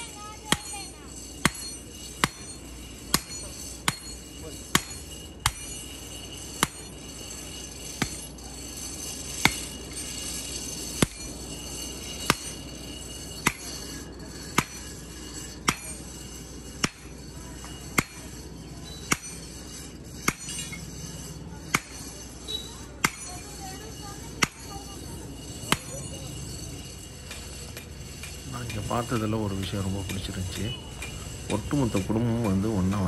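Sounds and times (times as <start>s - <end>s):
hammer striking hot iron on anvil: 0.0s - 33.0s.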